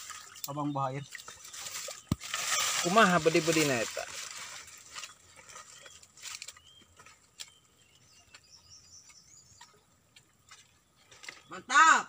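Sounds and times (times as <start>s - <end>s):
birds chirping: 0.1s - 12.0s.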